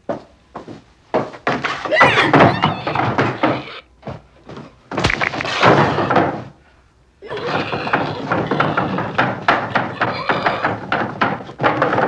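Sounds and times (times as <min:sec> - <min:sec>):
noisy commotion: 0:01.6 - 0:06.6, 0:07.2 - 0:12.0.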